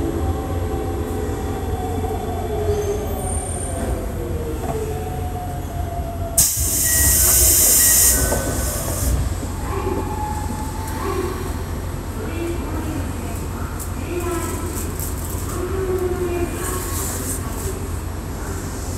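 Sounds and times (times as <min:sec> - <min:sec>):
wheels rumbling on rail: 0:00.0 - 0:18.9.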